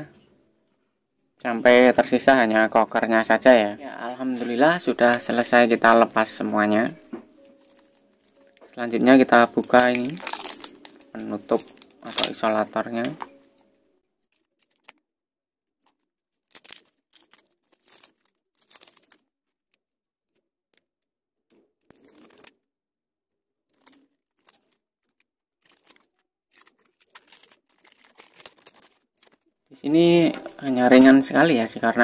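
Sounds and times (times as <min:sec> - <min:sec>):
tape crinkling and tearing: 0:01.9 - 0:15.1, 0:15.7 - 0:22.7, 0:23.4 - 0:31.3.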